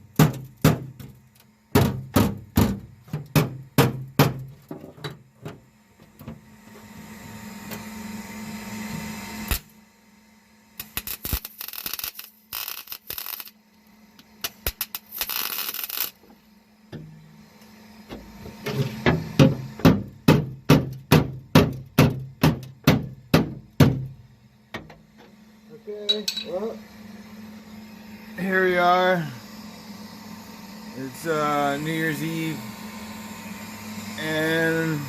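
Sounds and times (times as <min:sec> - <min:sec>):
hissing tool noise: 0:00.0 - 0:09.8, 0:10.5 - 0:35.0.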